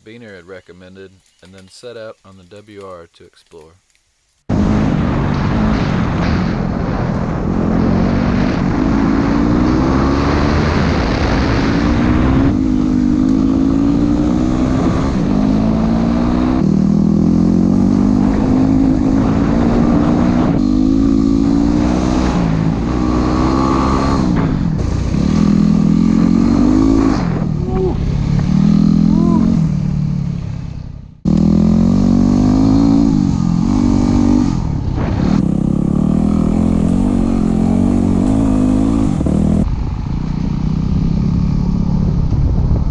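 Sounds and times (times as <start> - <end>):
motorcycle engine shifting gears: 4.5 - 42.8.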